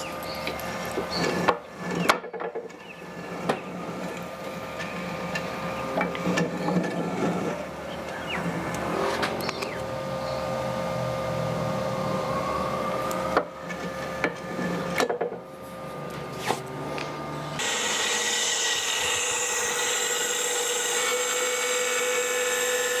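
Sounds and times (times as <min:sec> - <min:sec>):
machine hum: 0:03.0 - 0:23.0.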